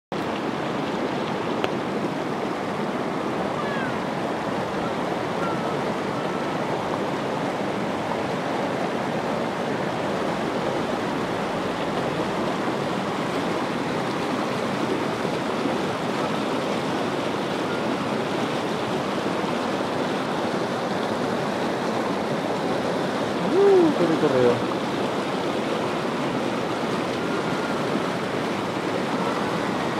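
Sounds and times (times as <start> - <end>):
river rushing over rocks: 0.1 - 29.9.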